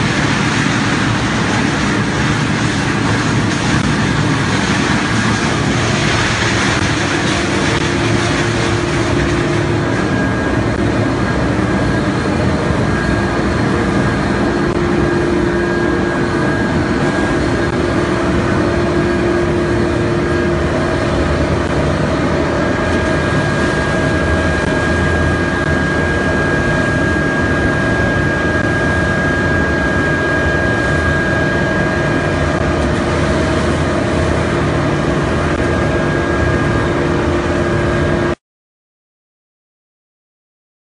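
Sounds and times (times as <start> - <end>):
foam crushing machine running: 0.0 - 38.3
constant machine whine: 0.0 - 38.4.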